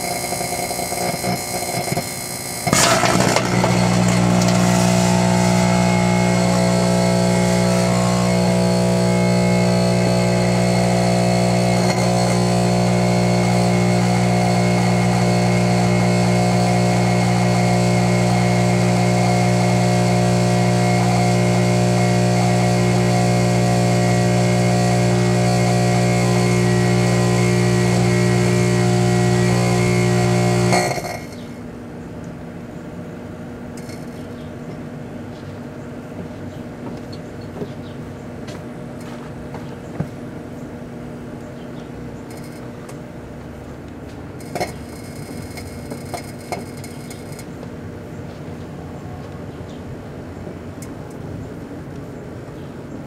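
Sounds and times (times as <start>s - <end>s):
microwave oven humming: 0.0s - 53.0s.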